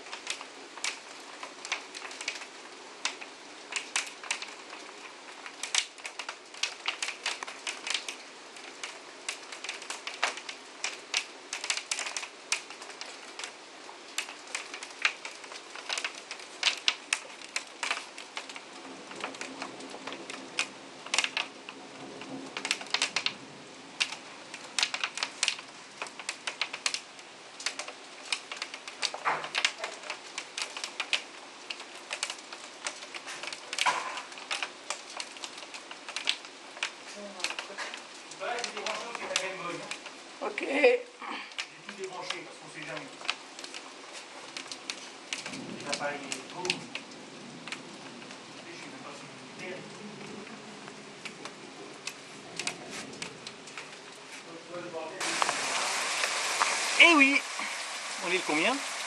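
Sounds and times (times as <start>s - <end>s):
rain hiss: 0.0s - 59.0s
raindrops tapping on hard surface: 0.0s - 59.0s.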